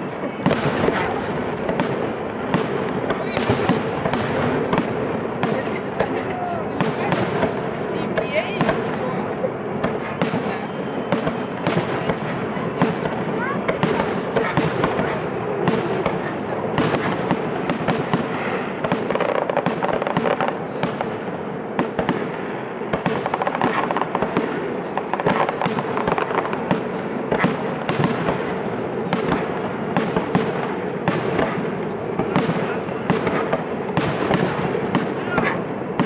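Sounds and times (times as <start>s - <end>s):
fireworks bangs: 0.0s - 36.0s
fireworks crackling: 0.0s - 36.0s.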